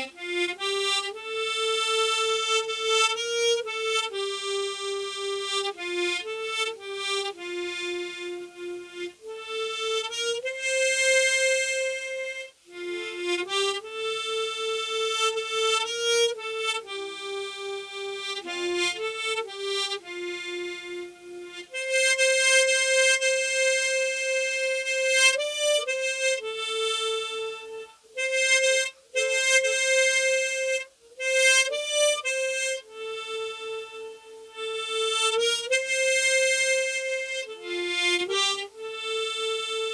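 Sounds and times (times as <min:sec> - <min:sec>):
solo harmonica melody: 0:00.0 - 0:39.9.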